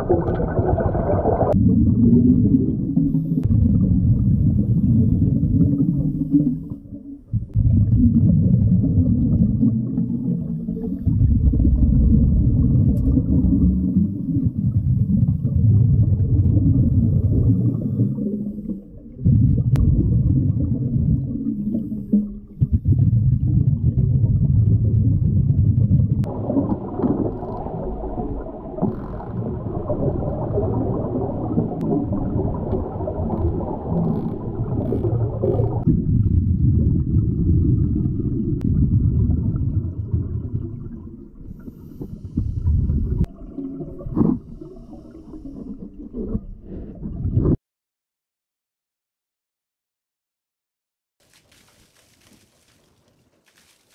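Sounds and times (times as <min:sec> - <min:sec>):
underwater breathing bubbles: 0:00.0 - 0:47.5.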